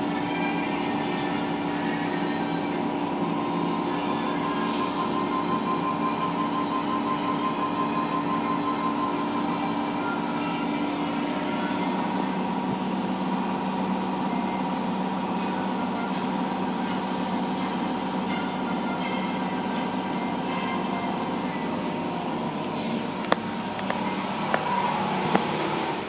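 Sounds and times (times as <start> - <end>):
car wash machinery hum: 0.0 - 26.0.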